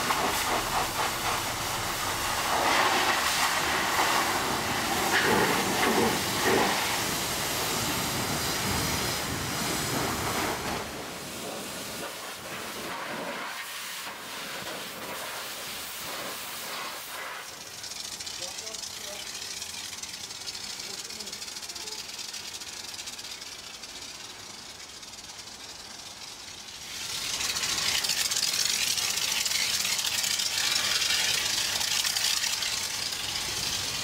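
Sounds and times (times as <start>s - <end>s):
pressure washer spraying: 0.0s - 34.0s.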